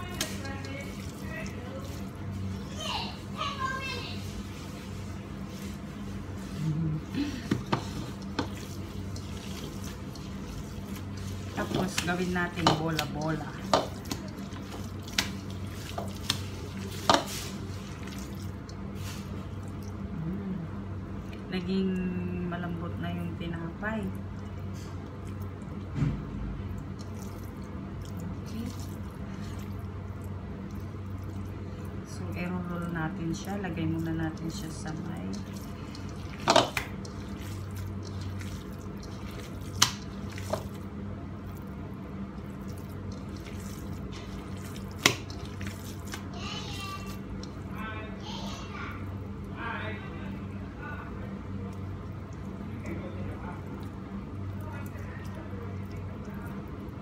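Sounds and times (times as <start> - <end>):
hands squelching wet mixture: 0.0 - 3.4, 4.2 - 20.3, 21.0 - 57.0
steady low hum: 0.0 - 57.0.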